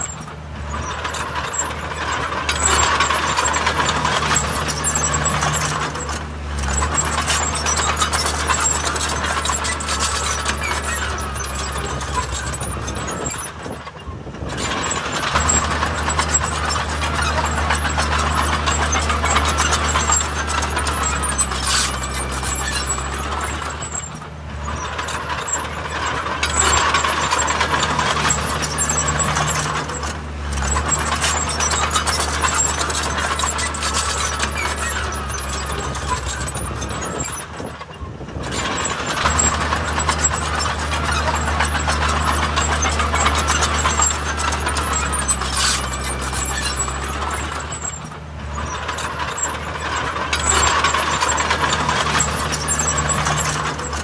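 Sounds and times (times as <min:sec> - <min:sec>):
heavy diesel machinery running: 0:00.0 - 0:54.0
metallic clanking: 0:00.0 - 0:54.0.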